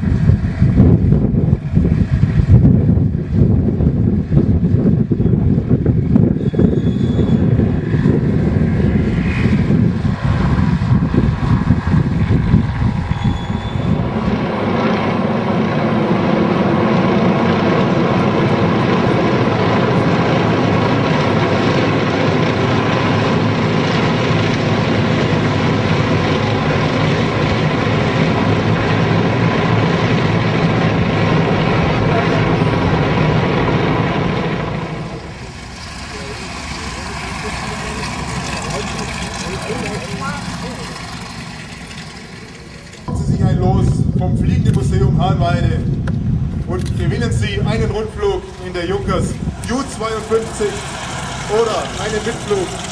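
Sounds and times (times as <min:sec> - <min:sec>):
propeller aircraft engines: 0:00.0 - 0:52.9
wind buffeting microphone: 0:00.0 - 0:52.9.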